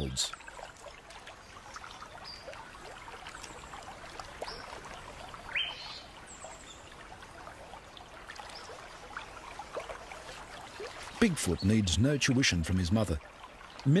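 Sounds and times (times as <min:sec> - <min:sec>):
faint water trickle: 0:00.0 - 0:14.0.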